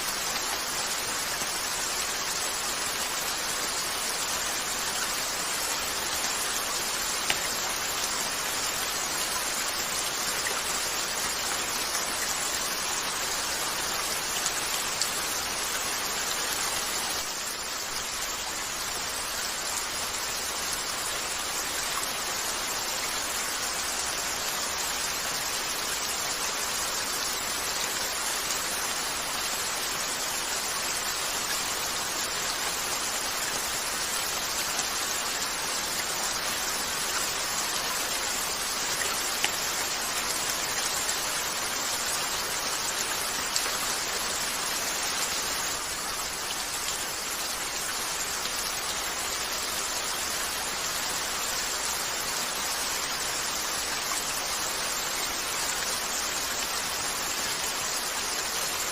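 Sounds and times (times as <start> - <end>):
rain on a window: 0.0 - 58.9.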